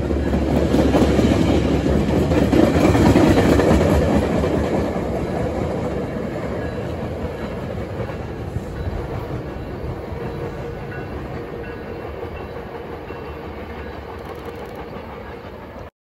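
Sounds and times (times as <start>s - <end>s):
train wheels clattering over rails: 0.0s - 15.9s.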